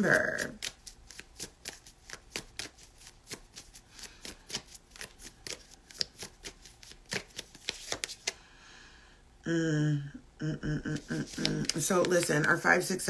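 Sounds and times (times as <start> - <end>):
cards being shuffled: 0.0 - 8.4, 10.9 - 13.0.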